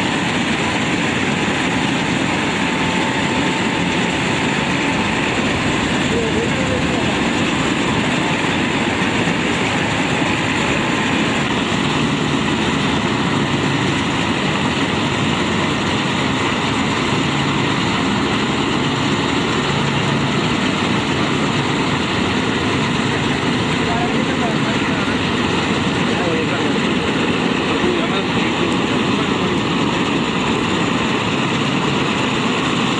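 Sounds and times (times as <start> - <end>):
combine harvester running: 0.0 - 32.9.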